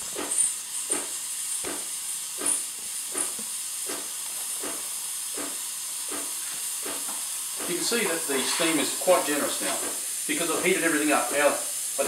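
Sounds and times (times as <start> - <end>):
espresso machine steam hissing: 0.0 - 12.0.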